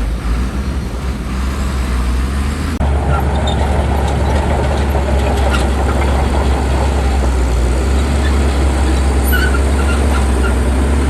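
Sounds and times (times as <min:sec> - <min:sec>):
heavy diesel engine droning: 0:00.0 - 0:11.0
mechanical clatter: 0:00.0 - 0:11.0.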